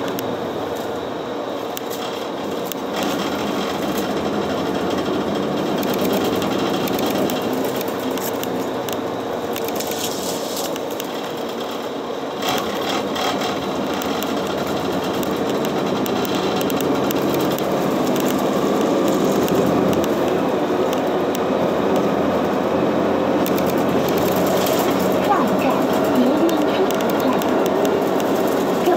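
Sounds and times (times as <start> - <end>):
bus running from inside: 0.0 - 28.9
body and windows rattling: 2.0 - 9.2, 9.8 - 21.2, 23.4 - 28.9.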